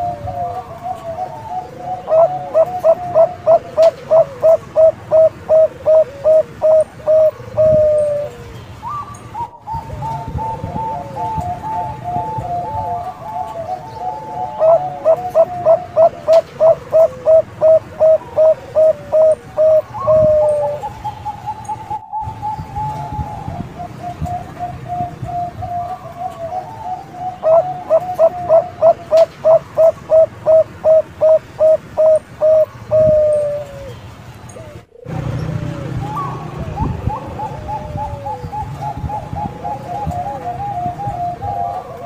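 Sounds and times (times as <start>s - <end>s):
dove cooing: 0.0s - 42.0s.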